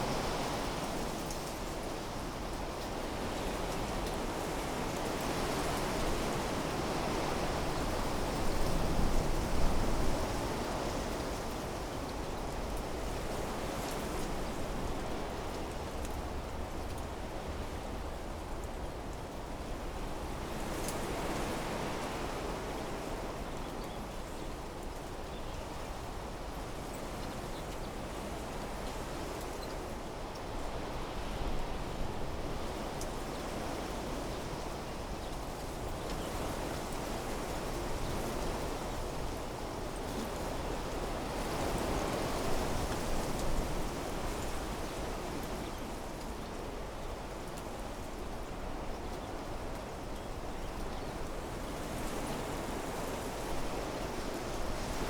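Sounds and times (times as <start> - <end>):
wind rustling foliage: 0.0 - 55.0.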